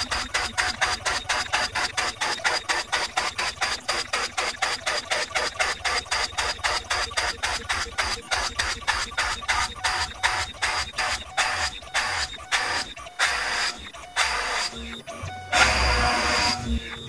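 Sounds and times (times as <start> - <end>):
cnc router spindle whining: 0.0 - 17.0
router drilling holes: 0.0 - 17.0.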